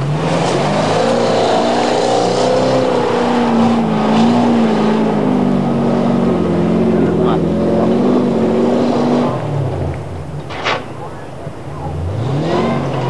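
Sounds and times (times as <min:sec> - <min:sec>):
engine labouring under load: 0:00.0 - 0:13.0.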